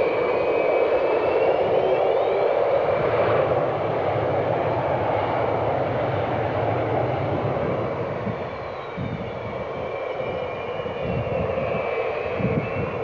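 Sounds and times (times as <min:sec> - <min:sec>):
high turbine whine: 0:00.0 - 0:13.0
jet engine rush: 0:00.0 - 0:13.0.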